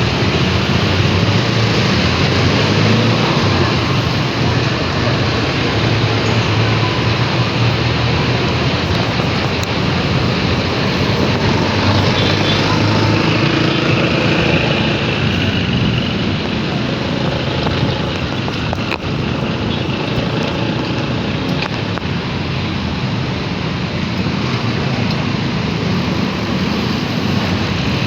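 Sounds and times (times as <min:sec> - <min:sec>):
motorcycle running at speed: 0:00.0 - 0:28.0
wind rushing over microphone: 0:00.0 - 0:28.0.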